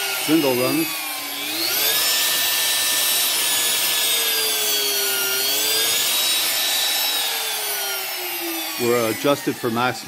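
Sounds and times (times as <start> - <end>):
router motor high whine: 0.0 - 10.0.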